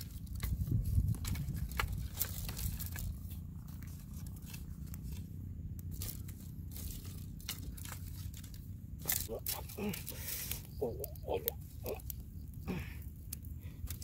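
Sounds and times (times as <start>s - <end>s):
twigs clicking and crackling: 0.0s - 14.0s
wind rumble on microphone: 0.0s - 14.0s.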